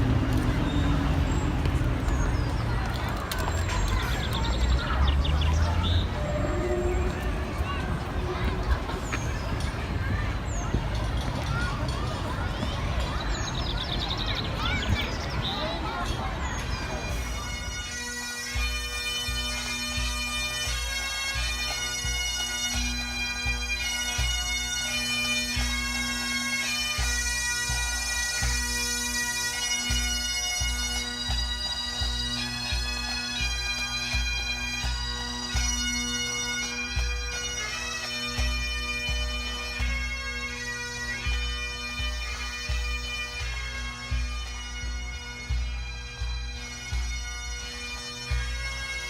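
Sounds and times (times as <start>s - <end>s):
bagpipe drones: 0.0s - 49.0s
bagpipe melody: 0.0s - 49.0s.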